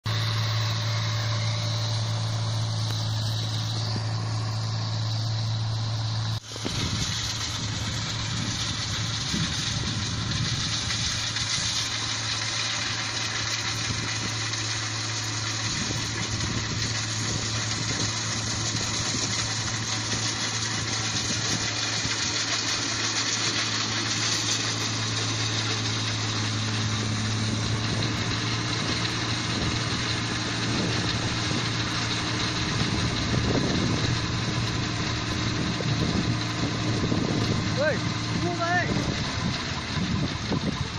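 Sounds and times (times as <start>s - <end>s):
engine rattle: 0.0s - 40.9s
harvester engine running: 0.0s - 40.9s.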